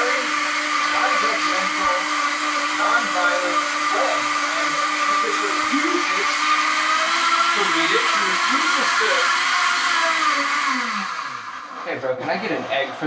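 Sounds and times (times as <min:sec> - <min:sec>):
electric blower motor whirring: 0:00.0 - 0:13.0.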